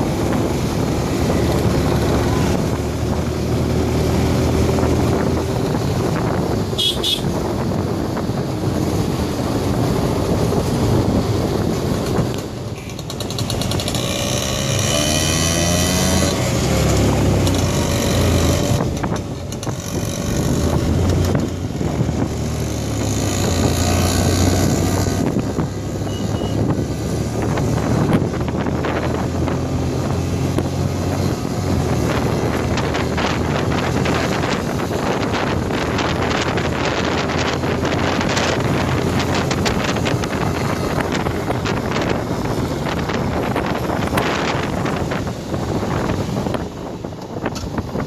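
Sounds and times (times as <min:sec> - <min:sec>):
motorcycle engine revving: 0:00.0 - 0:48.0
wind buffeting microphone: 0:00.0 - 0:48.0.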